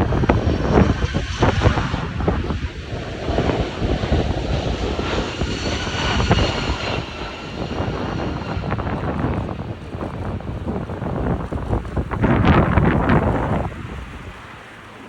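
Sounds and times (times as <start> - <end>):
gusty wind on microphone: 0.0 - 15.0
jet engines running: 0.0 - 15.0.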